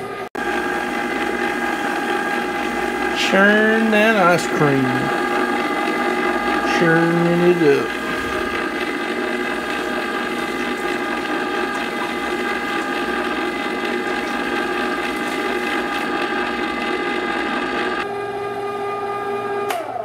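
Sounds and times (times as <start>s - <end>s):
ice cream maker motor whine: 0.0s - 20.0s
rattling churn: 0.4s - 18.0s.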